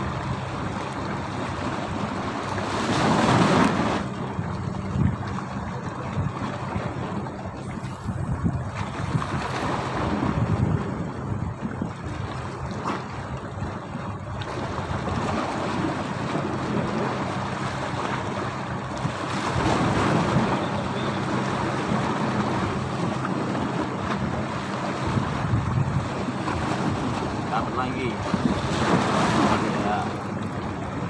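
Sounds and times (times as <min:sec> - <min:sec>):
low steady hum: 0:00.0 - 0:31.0
waves slapping boat: 0:00.0 - 0:31.0
wind buffeting microphone: 0:00.0 - 0:31.0.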